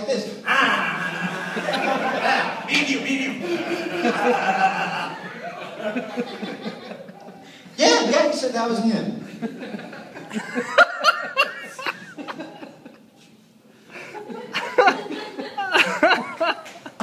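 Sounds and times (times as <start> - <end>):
audience laughing: 0.6 - 7.6, 9.3 - 13.1, 13.9 - 17.0.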